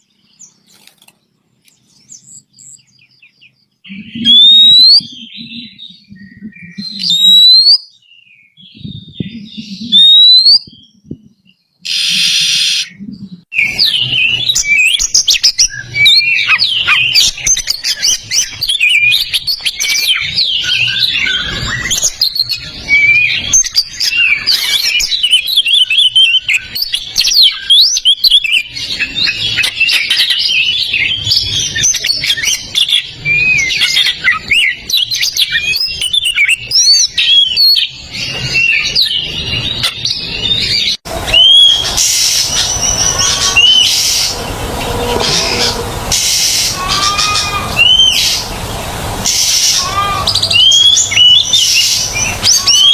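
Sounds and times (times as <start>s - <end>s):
bird chirps and trills: 0.0s - 52.9s
rising bird whistles: 3.6s - 11.1s, 11.8s - 48.4s.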